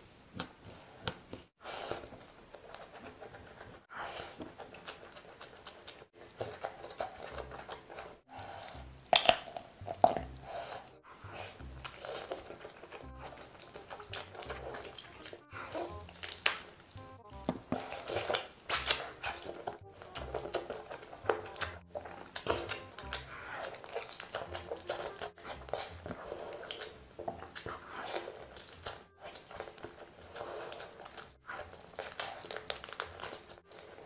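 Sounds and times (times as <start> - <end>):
close-up chewing: 0.2 - 34.0.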